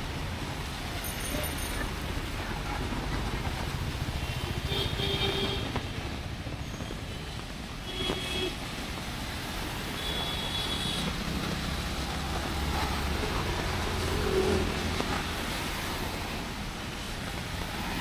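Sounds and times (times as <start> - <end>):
traffic rumble and hiss: 0.0 - 18.0.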